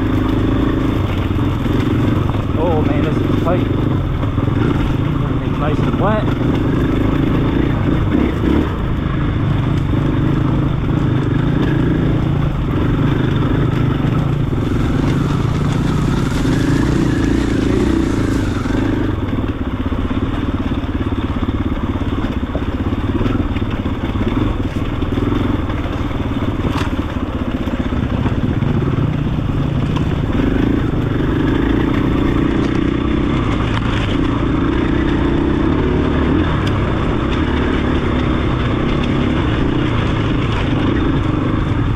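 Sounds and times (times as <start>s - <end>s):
dirt bike engine revving: 0.0s - 21.1s, 27.7s - 41.8s.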